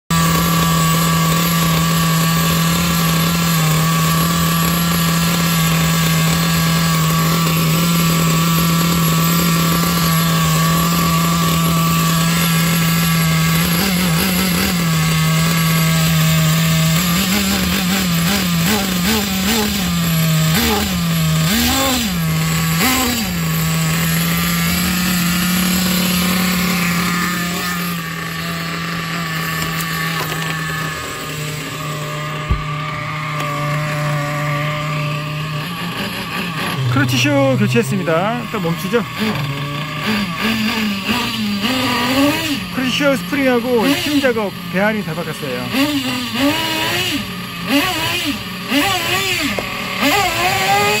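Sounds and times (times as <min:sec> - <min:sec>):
engine throttle blips: 0:00.1 - 0:51.0
model car engine idling: 0:00.1 - 0:51.0.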